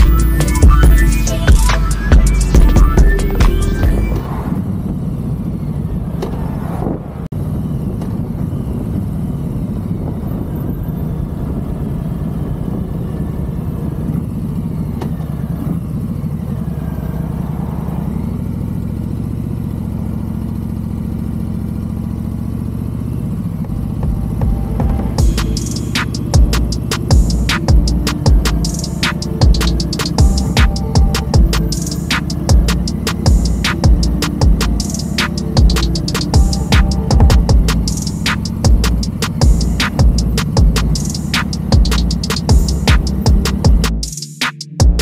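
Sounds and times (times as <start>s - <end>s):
motorcycle engine running: 7.4s - 45.0s.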